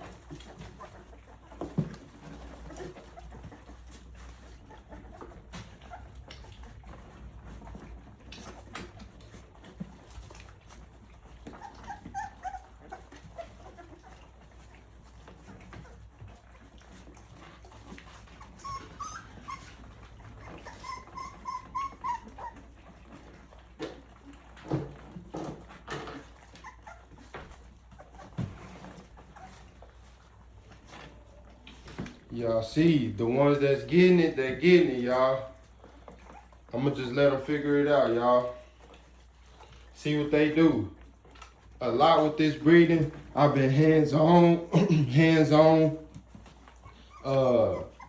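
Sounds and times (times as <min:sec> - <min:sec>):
puppies eating wet smacks: 0:00.0 - 0:48.0
puppies whimpering and squeaking: 0:00.0 - 0:48.0.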